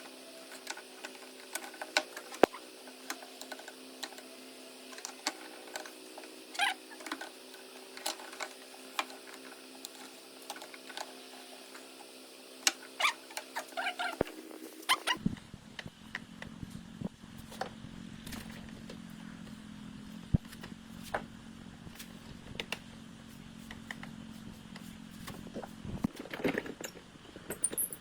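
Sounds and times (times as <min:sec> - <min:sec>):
small motor humming: 0:00.0 - 0:26.1.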